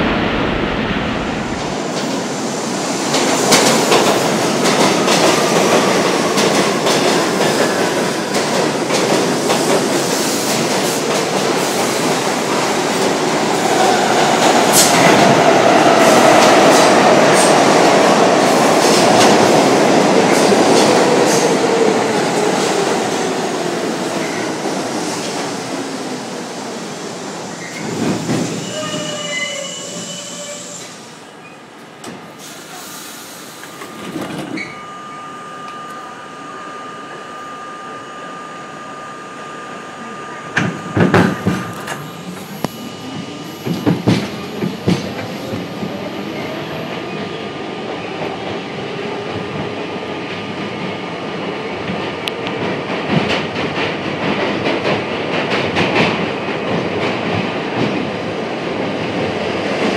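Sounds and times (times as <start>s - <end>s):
subway train rumble: 0.0s - 59.9s
train whine: 0.0s - 59.9s.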